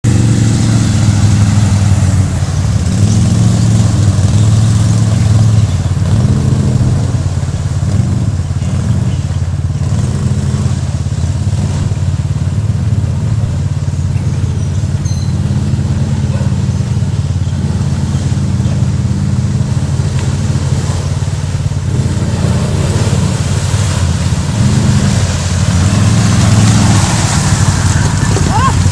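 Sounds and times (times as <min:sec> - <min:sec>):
atv engine running: 0:00.0 - 0:28.9.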